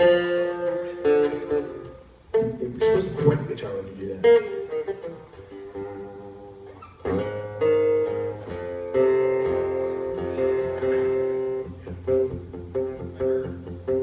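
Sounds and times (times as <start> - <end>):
guitar chords strummed: 0.0 - 14.0
picked guitar notes: 0.0 - 14.0.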